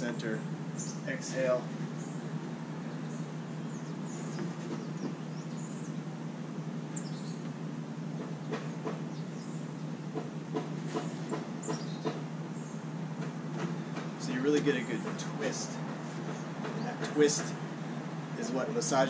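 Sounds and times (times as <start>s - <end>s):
birds chirping: 0.0s - 19.0s
low mechanical hum: 0.0s - 19.0s.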